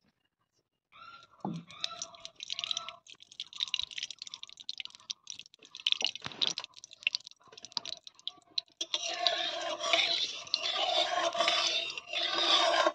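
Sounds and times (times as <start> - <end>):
oil crackling and ticking: 1.2 - 12.9.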